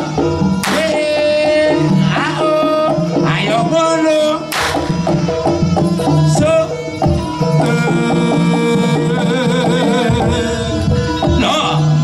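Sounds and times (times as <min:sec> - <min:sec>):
music with drums and melody: 0:00.0 - 0:12.0.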